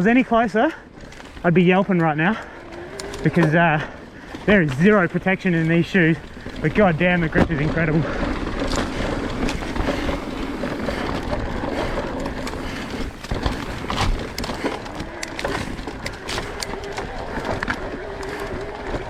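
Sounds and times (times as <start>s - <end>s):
bike rattling over rocks: 0.0s - 19.0s.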